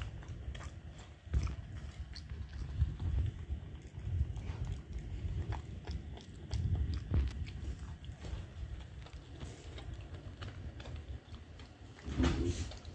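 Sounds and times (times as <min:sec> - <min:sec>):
dog chewing food: 0:00.0 - 0:12.9
low rumble: 0:00.0 - 0:12.9.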